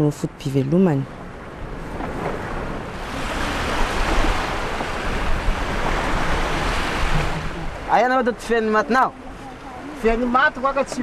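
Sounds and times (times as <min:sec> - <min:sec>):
wind buffeting microphone: 0:00.3 - 0:11.0
sea waves washing on shore: 0:00.9 - 0:11.0.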